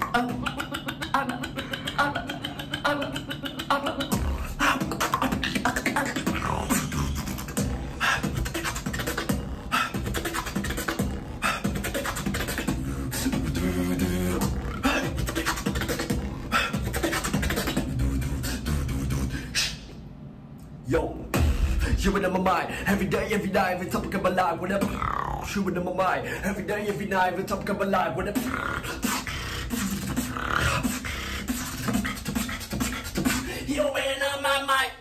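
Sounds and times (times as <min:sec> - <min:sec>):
beatbox vocal bass and snare hits: 0:00.0 - 0:20.0, 0:21.2 - 0:25.8, 0:26.5 - 0:33.7
low hummed tone: 0:00.0 - 0:33.6.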